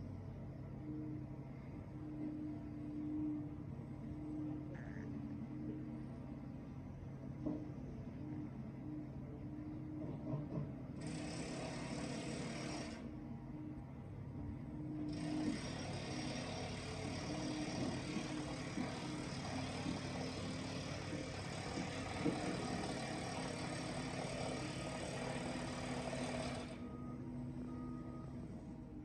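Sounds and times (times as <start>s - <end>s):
heavy machinery engine running: 0.0s - 29.0s.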